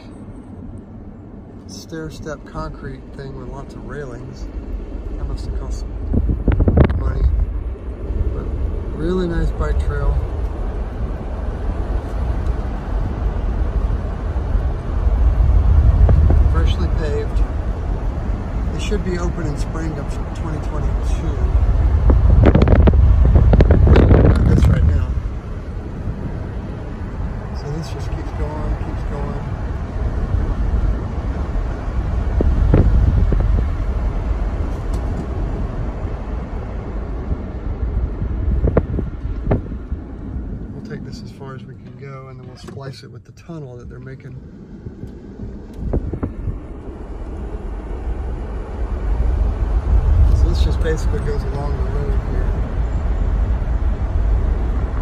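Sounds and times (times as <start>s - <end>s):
tyre and wind noise in car: 4.1s - 55.0s.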